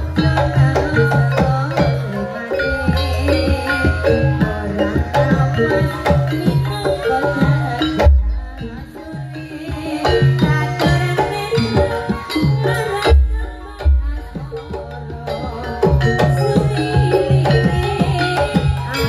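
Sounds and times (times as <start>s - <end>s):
hand drums: 0.0s - 19.0s
ringing metal percussion: 0.0s - 19.0s.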